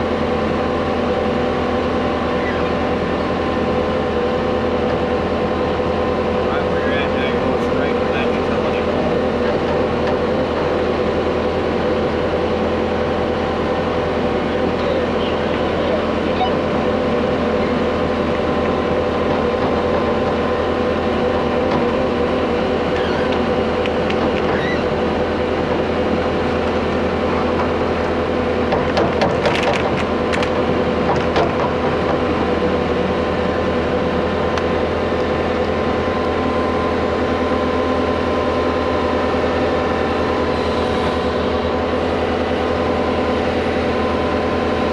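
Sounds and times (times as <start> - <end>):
excavator engine running: 0.0 - 44.9.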